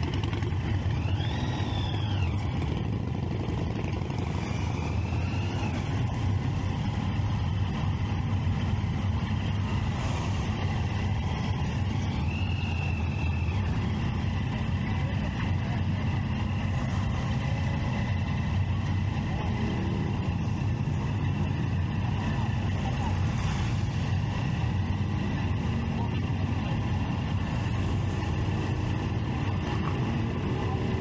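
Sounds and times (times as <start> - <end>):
motorcycle engine running steadily: 0.0 - 31.0
traffic: 0.0 - 31.0.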